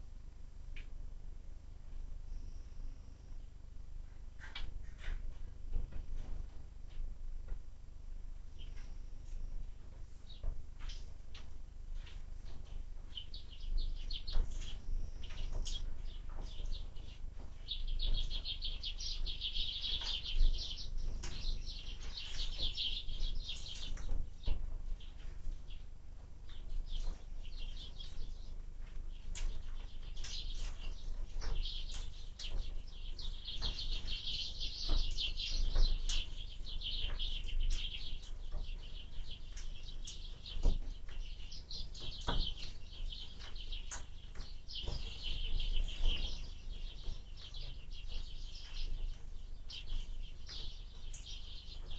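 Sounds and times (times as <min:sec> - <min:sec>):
low rumble of wind: 0:00.0 - 0:51.9
small birds chirping: 0:08.6 - 0:11.4, 0:12.0 - 0:51.9.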